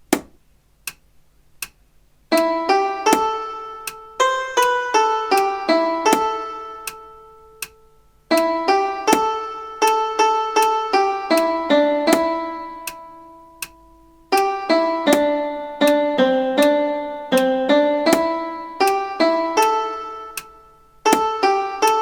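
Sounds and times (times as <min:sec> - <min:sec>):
struck single-line melody: 0:02.3 - 0:22.0.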